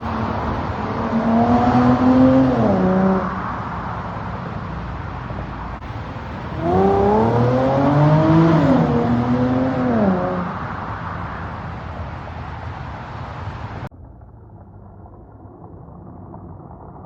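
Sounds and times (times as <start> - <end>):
car engine idling and revving: 0.0 - 14.3.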